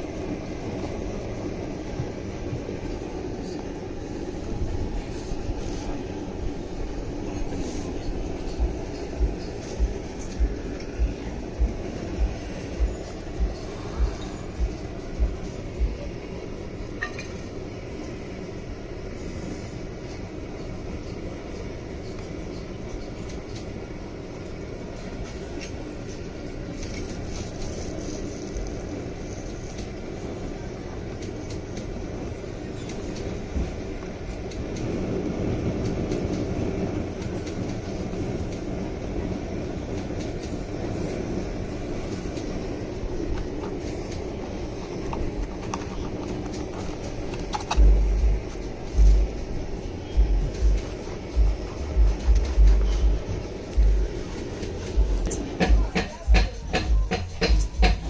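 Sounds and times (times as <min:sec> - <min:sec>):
low rumble of vehicles: 0:00.0 - 0:58.0.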